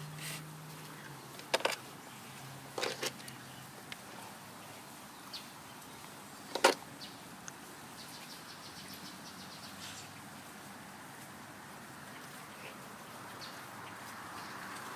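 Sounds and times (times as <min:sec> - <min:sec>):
flock of birds chirping: 0:00.0 - 0:14.9
outdoor background noise: 0:00.0 - 0:14.9.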